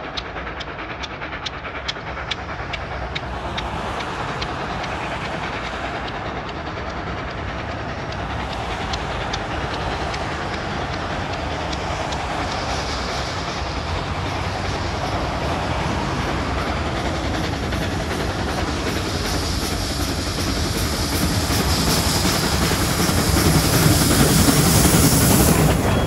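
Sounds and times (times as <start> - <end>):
locomotive exhaust beats: 0.0 - 26.0
steam locomotive running: 0.0 - 26.0.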